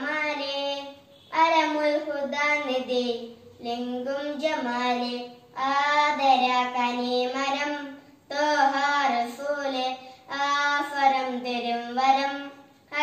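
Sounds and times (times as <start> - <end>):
boy singing unaccompanied: 0.0 - 13.0.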